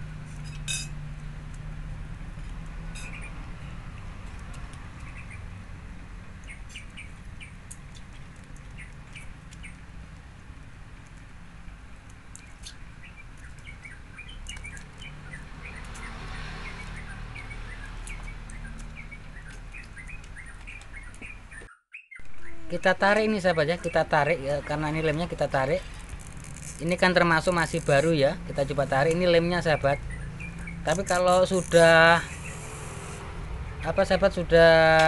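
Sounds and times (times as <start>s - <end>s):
small birds chirping: 2.4s - 5.6s, 6.3s - 9.9s, 11.1s - 35.0s.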